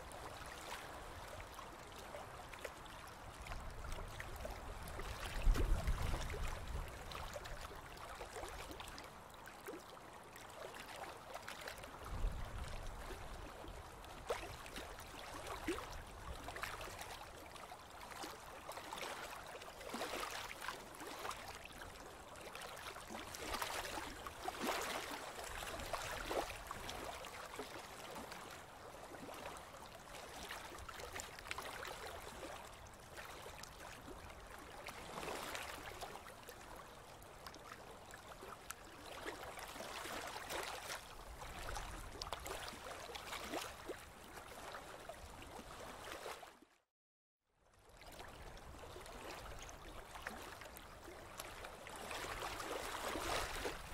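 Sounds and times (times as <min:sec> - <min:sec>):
river water lapping: 0:00.0 - 0:46.8, 0:47.8 - 0:53.9.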